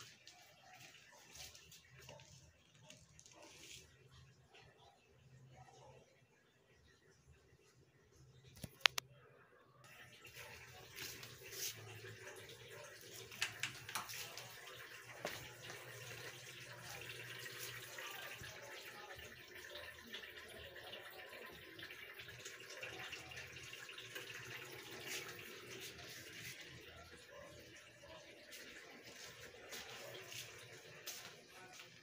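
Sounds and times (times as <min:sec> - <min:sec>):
water running: 0:00.0 - 0:04.8, 0:09.9 - 0:32.0.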